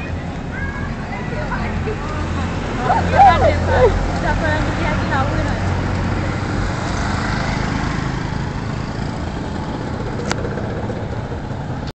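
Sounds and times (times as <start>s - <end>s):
road and wind noise: 0.0s - 11.9s
small vehicle engine driving: 0.0s - 11.9s.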